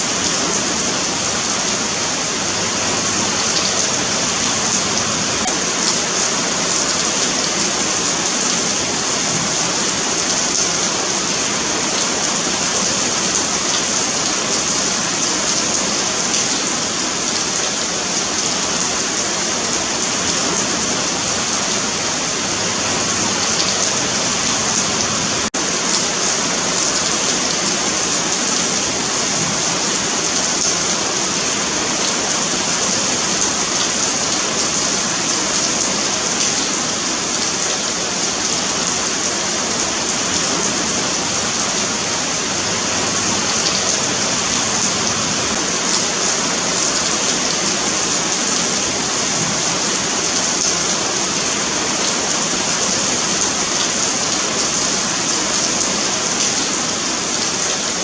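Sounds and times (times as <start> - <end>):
rain on pavement: 0.0 - 58.0.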